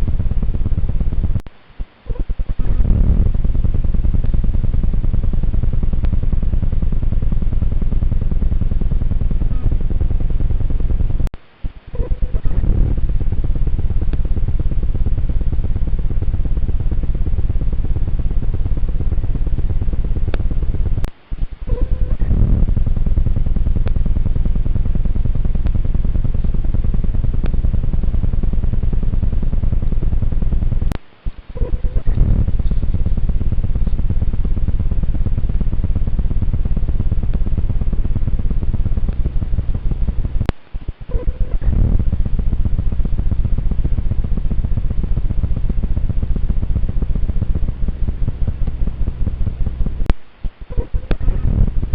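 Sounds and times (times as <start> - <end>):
low fluttering rumble with hiss: 0.0 - 51.9.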